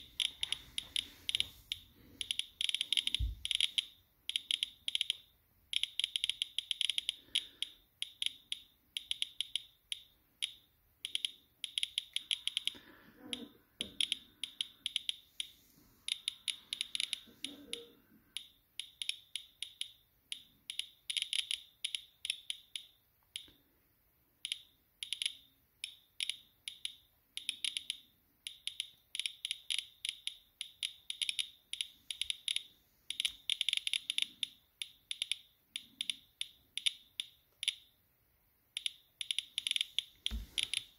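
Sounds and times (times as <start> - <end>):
geiger counter clicking: 0.0 - 23.6, 24.4 - 40.9.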